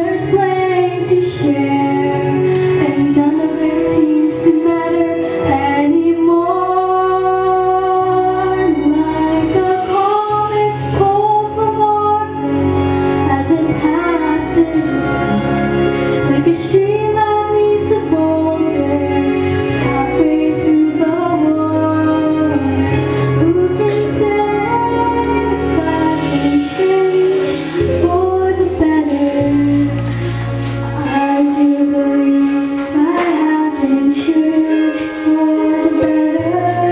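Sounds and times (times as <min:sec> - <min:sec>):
instrumental accompaniment: 0:00.0 - 0:36.9
woman singing with vibrato: 0:00.0 - 0:36.9.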